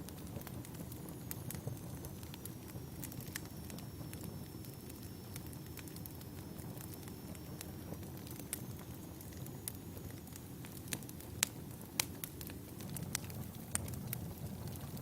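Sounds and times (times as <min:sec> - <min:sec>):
logs crackling and popping: 0:00.0 - 0:15.0
wood fire burning: 0:00.0 - 0:15.0.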